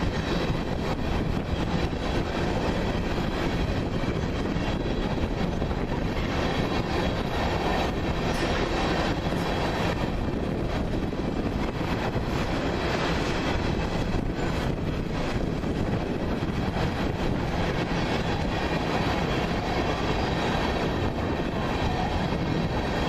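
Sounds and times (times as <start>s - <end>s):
rail joint clicks: 0.0s - 23.0s
train wheels rumbling on rail: 0.0s - 23.0s.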